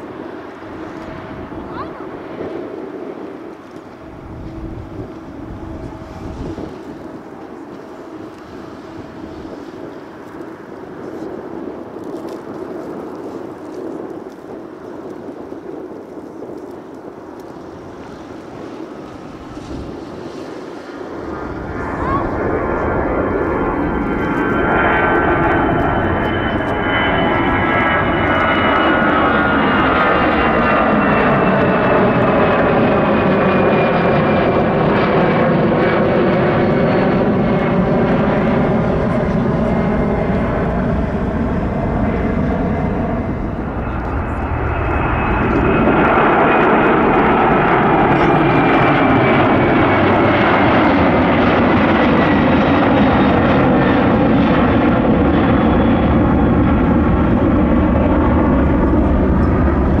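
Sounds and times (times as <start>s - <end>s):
jet engines at takeoff: 0.0s - 60.0s.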